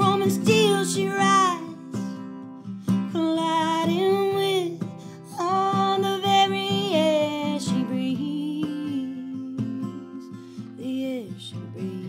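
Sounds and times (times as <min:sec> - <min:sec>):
strummed acoustic guitar: 0:00.0 - 0:12.0
woman singing: 0:00.0 - 0:12.0.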